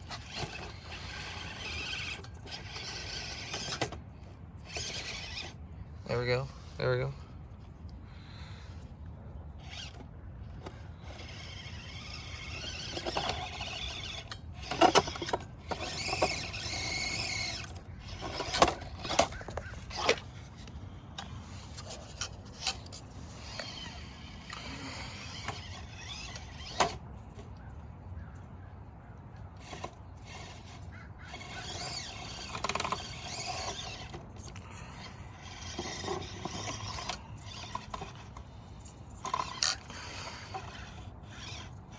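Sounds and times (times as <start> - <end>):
small electric motor whining: 0.0 - 41.9.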